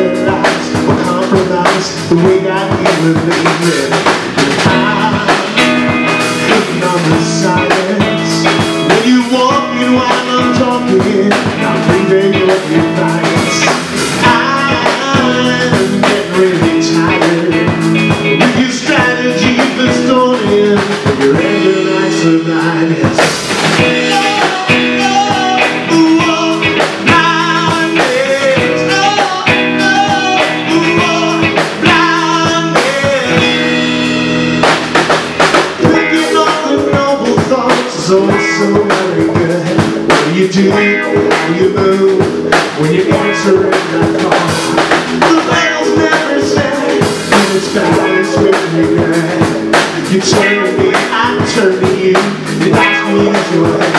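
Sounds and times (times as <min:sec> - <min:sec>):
drum kit: 0:00.0 - 0:53.9
electric bass: 0:00.0 - 0:53.9
electric guitar: 0:00.0 - 0:53.9.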